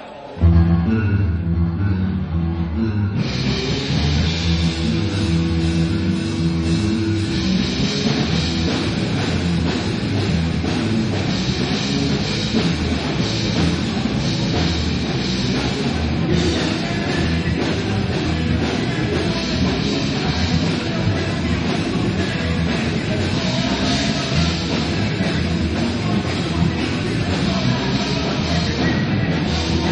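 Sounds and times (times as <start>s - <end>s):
guitars: 0.0s - 29.9s
drum kit: 3.2s - 29.9s.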